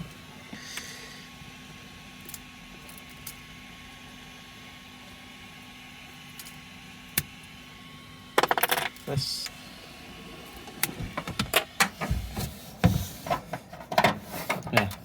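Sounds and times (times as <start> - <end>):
printer fans humming: 0.0 - 15.0.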